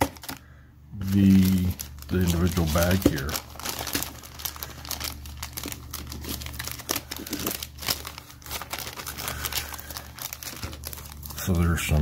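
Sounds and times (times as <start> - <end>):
low steady hum: 0.0 - 12.0
plastic bag crinkling: 0.0 - 12.0.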